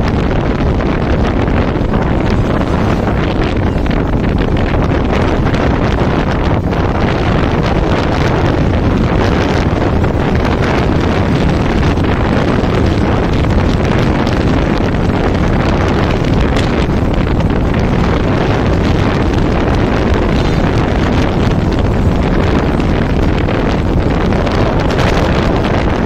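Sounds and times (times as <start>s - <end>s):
low rumble of moving vehicle: 0.0s - 26.0s
wind buffeting microphone: 0.0s - 26.0s.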